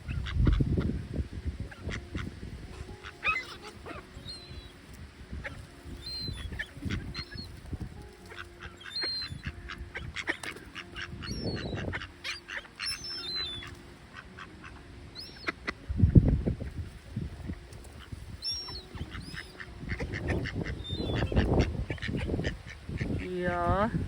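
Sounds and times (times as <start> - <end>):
gulls and waterbirds calling: 0.0 - 16.8, 17.4 - 23.8
wind rumbling on microphone: 0.0 - 24.0.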